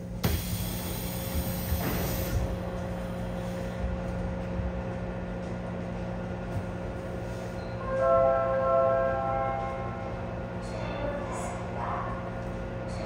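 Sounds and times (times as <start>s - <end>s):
electric train motor hum: 0.0s - 13.0s
train wheels rumbling on rail: 0.0s - 13.0s.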